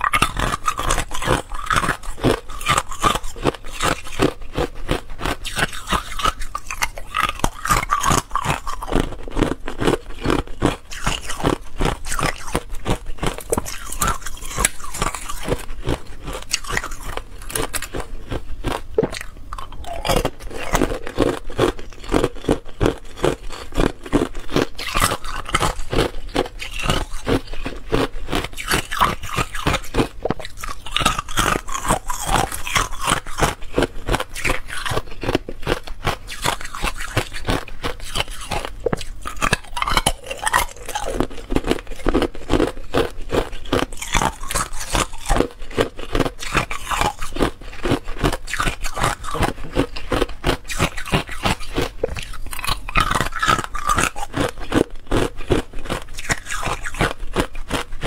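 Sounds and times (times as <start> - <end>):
ice cubes crunching: 0.0 - 58.0.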